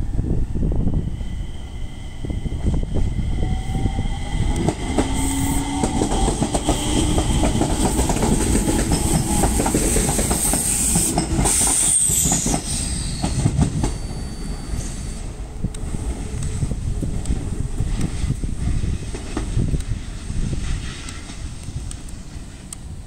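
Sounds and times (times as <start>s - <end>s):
high train whine falling in pitch: 0.0s - 22.7s
low train motor whine: 0.0s - 23.0s
train wheels clicking over rail joints: 3.5s - 15.0s, 15.7s - 23.0s.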